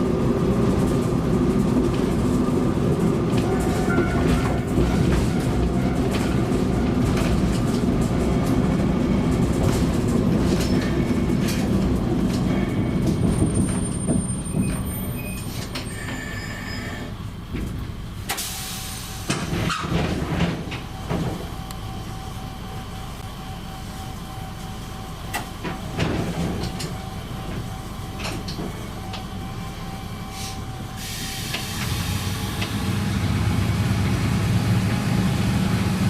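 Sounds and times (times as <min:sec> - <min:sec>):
rail clicks: 0:00.0 - 0:21.9, 0:24.6 - 0:33.0
diesel railcar engine rumble: 0:00.0 - 0:36.0.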